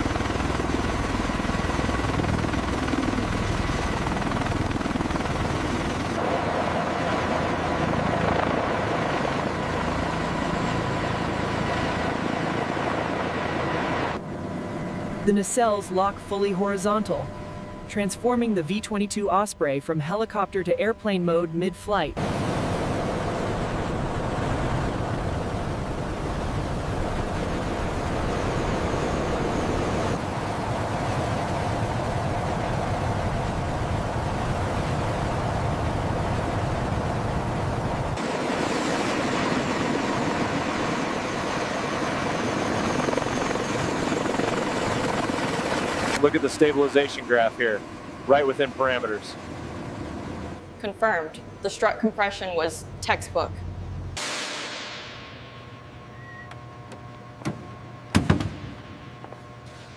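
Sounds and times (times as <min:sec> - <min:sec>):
tiltrotor aircraft hovering: 0:00.0 - 0:54.2
thin steady whine: 0:00.0 - 0:59.9.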